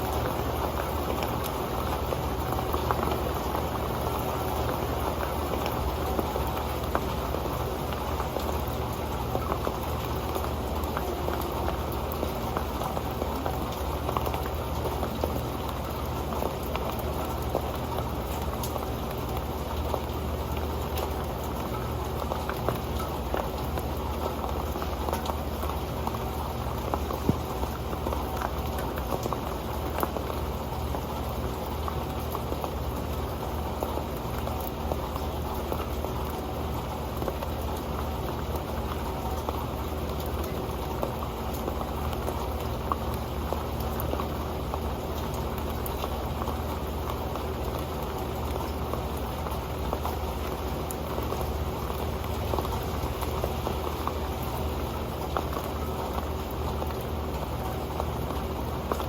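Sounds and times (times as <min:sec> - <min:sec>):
rain pattering on a pan: 0:00.0 - 0:59.0.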